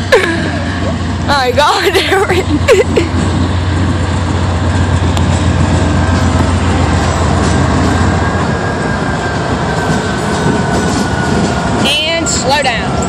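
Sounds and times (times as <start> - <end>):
locomotive engine rumble: 0.0 - 13.0
roar of wheels on rail: 0.0 - 13.0.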